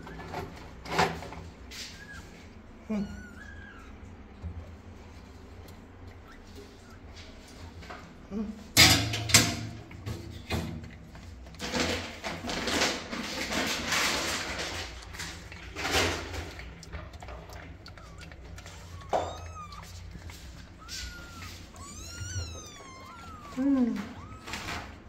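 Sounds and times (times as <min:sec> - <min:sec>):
rustling and scraping: 0:00.0 - 0:02.6, 0:04.4 - 0:25.0.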